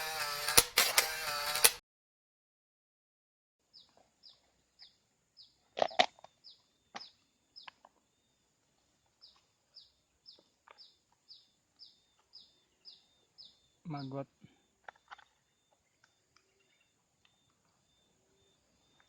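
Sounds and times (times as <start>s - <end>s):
bird chirping: 3.7s - 19.0s.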